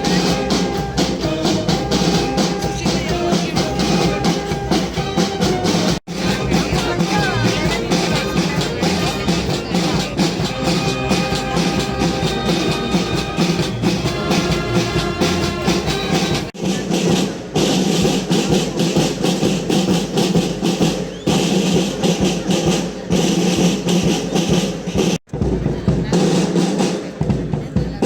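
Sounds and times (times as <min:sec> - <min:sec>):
brass band playing a march: 0:00.0 - 0:27.5
snare and bass drum beats: 0:00.0 - 0:28.0.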